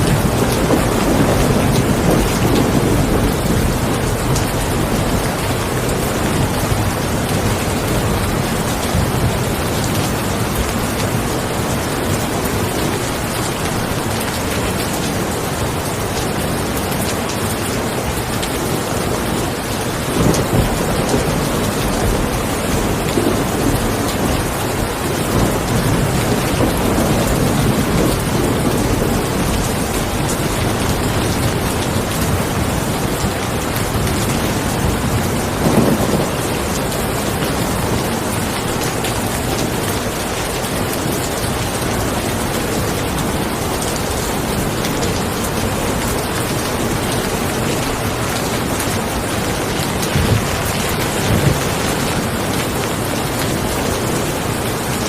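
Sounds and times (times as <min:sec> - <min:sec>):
thunder rolling: 0:00.0 - 0:14.4, 0:19.4 - 0:39.7, 0:42.7 - 0:55.0
steady rain: 0:00.0 - 0:55.0.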